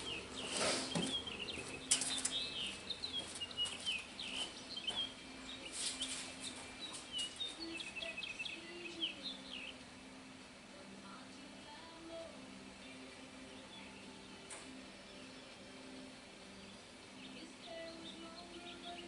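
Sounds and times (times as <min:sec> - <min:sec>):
small birds chirping: 0:00.0 - 0:10.0, 0:11.8 - 0:19.0
faint steady hum: 0:00.0 - 0:19.0.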